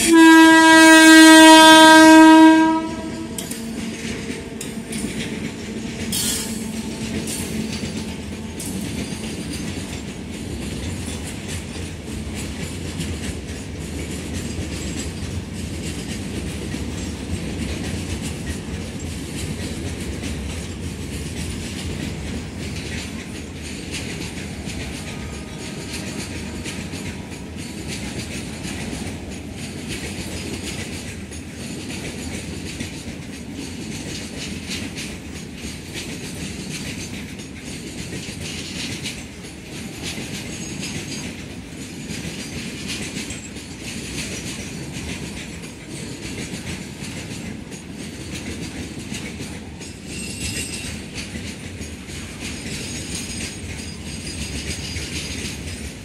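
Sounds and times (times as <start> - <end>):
freight train rumbling: 0.0 - 56.0
wheels clicking over rail joints: 1.5 - 56.0.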